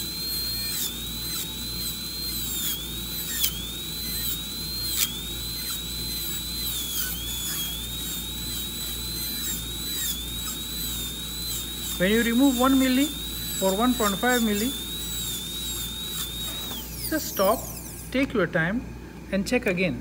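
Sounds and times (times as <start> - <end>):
dental drill whining: 0.0 - 18.7.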